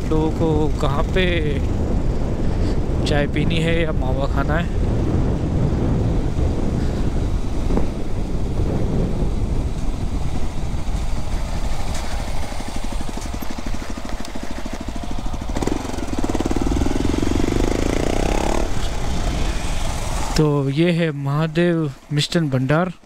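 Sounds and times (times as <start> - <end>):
motorcycle engine running: 0.0 - 22.5
wind rumbling on microphone: 0.0 - 22.5.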